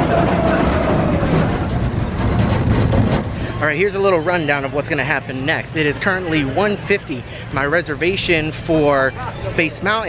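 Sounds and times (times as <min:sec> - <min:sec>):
roller coaster running on track: 0:00.0 - 0:10.0.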